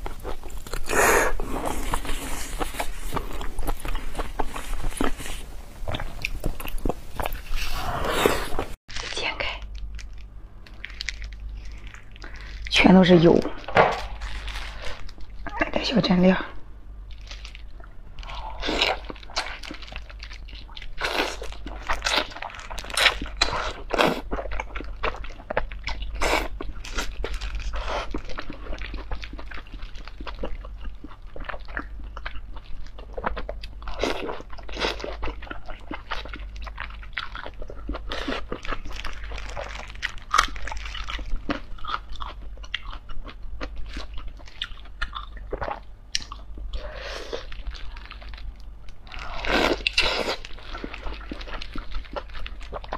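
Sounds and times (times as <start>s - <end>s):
person chewing wet food: 0.0s - 8.8s, 17.1s - 52.9s.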